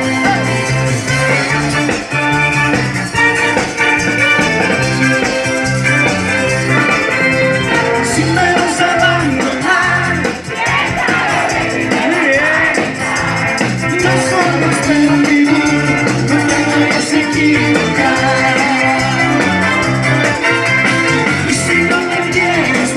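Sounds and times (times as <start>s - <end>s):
live band playing amplified music: 0.0s - 22.9s
repeating bass line: 0.0s - 22.9s.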